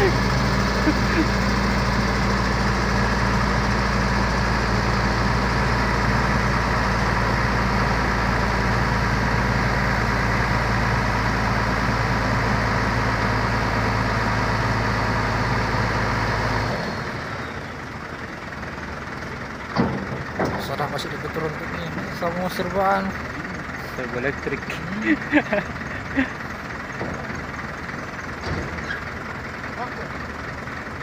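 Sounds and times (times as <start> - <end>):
heavy engine idling: 0.0 - 31.0.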